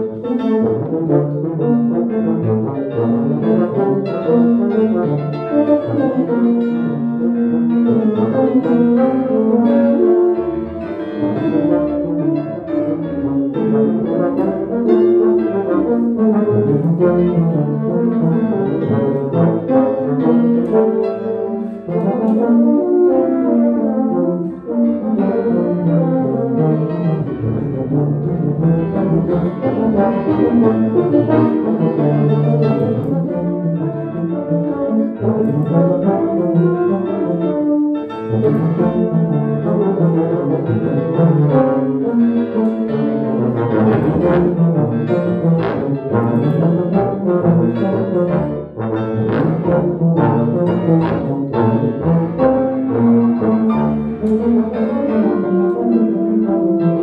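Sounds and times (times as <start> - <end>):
piano accompaniment: 0.0 - 57.0
tubas playing a duet: 0.0 - 57.0.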